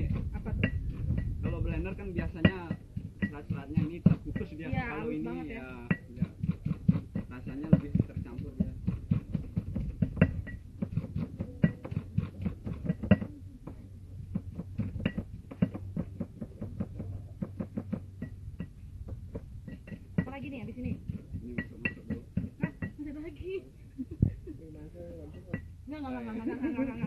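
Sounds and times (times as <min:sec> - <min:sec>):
pestle pounding in stone mortar: 0:00.0 - 0:04.6, 0:05.8 - 0:23.0.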